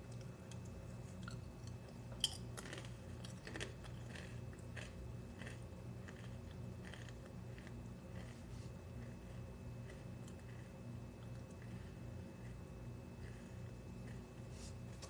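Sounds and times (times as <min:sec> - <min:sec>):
person chewing crunchy crackers: 0:00.0 - 0:15.0.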